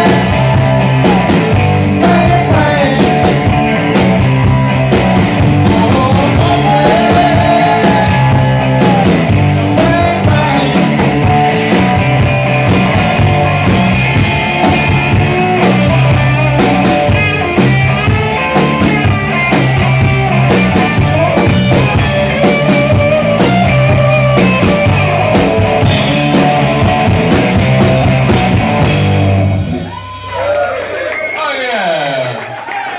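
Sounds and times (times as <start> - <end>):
live rock band playing: 0.0 - 31.4.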